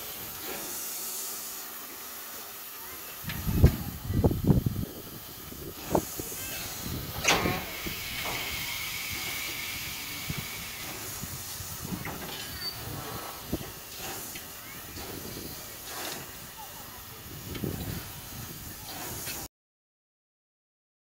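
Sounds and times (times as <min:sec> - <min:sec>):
sharp burst of steam: 0:00.0 - 0:19.5
steam locomotive hissing: 0:00.0 - 0:19.5.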